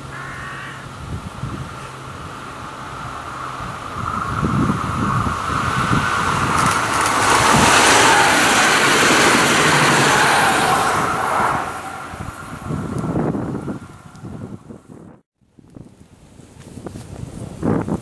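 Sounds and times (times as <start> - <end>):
train passing on rails: 0.0 - 15.2.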